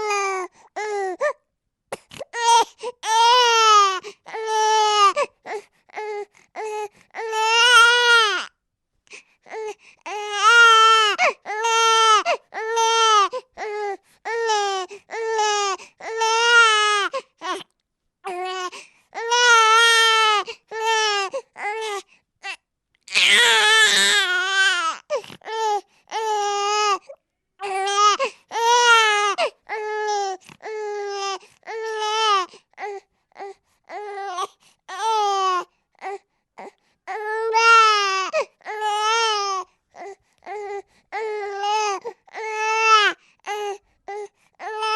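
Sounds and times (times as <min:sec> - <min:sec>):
baby crying: 0:00.0 - 0:01.4, 0:02.2 - 0:08.5, 0:09.5 - 0:17.7, 0:18.3 - 0:44.9.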